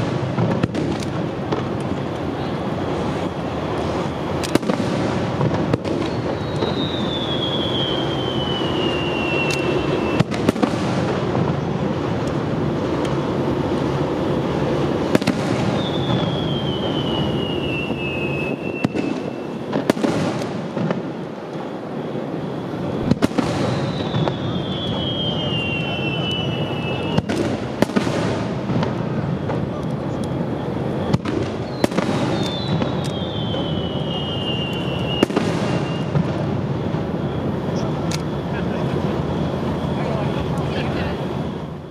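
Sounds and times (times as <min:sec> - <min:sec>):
crowd noise: 0:00.0 - 0:41.9
descending firework whistle: 0:00.0 - 0:41.9
fireworks crackle and rumble: 0:00.0 - 0:41.9
fireworks sharp bangs: 0:00.0 - 0:41.9.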